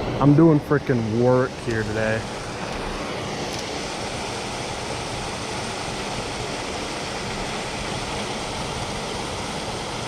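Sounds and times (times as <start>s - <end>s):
creek water over rocks: 0.0s - 10.0s.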